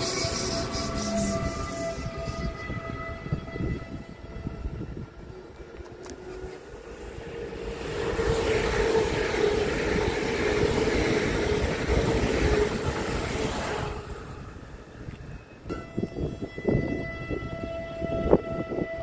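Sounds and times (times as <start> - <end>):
train passing: 0.0 - 19.0
wheel and rail noise: 0.0 - 19.0.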